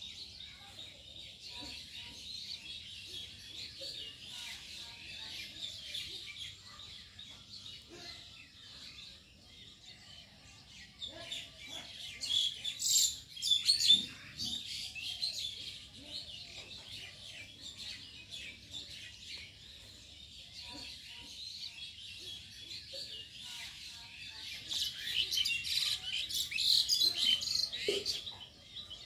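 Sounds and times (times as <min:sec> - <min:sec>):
flock of birds chirping: 0:00.0 - 0:29.0.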